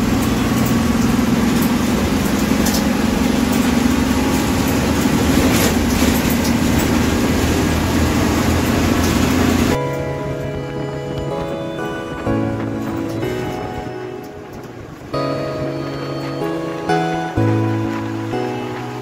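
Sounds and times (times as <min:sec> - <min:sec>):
bus diesel engine humming: 0:00.0 - 0:19.0
road and body noise: 0:00.0 - 0:19.0.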